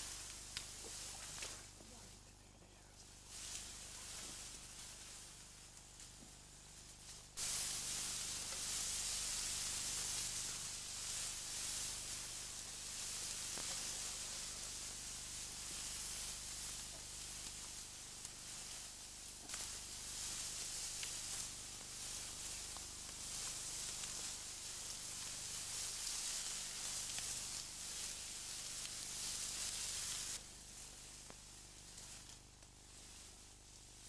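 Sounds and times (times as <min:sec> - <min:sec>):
tall grass rustling: 0:00.0 - 0:02.2, 0:03.2 - 0:34.0.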